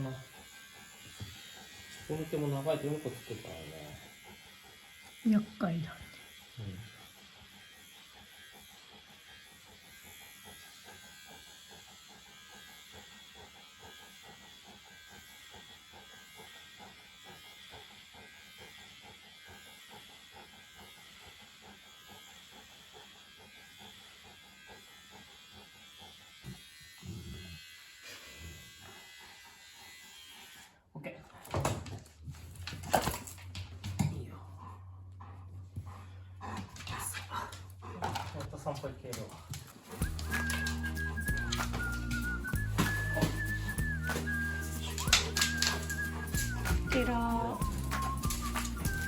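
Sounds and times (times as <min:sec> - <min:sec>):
electric pet clippers buzzing: 0:00.0 - 0:30.9, 0:39.6 - 0:49.0.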